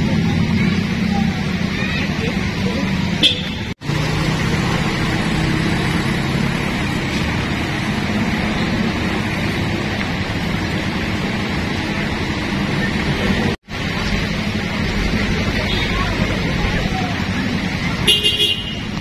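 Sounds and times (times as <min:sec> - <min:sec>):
motorcycle and car engines: 0:00.0 - 0:19.0
floodwater rushing: 0:00.1 - 0:19.0.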